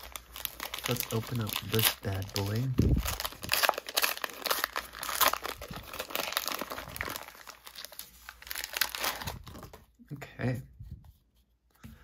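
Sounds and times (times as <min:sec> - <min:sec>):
card pack wrapper crinkling: 0:00.0 - 0:09.9.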